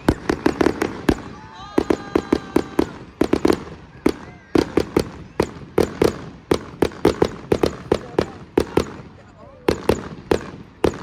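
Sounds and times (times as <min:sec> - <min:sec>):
fireworks banging and cracking: 0:00.0 - 0:11.0.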